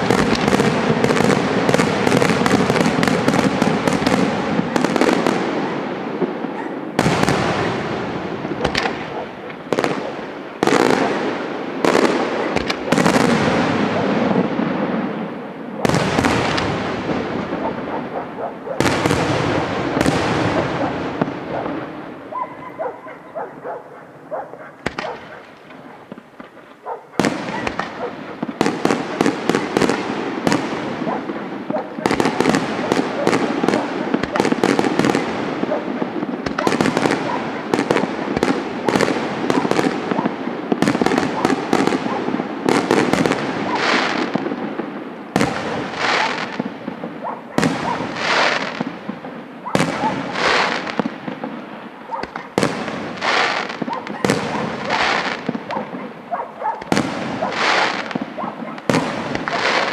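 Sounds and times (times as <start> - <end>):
heavy firework bangs: 0.0 - 23.8, 24.8 - 59.9
fireworks crackling: 0.0 - 59.9.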